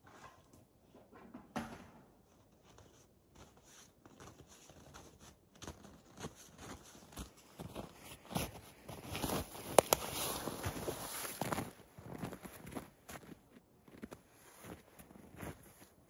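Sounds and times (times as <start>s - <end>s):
footsteps crunching in snow: 2.4s - 16.0s.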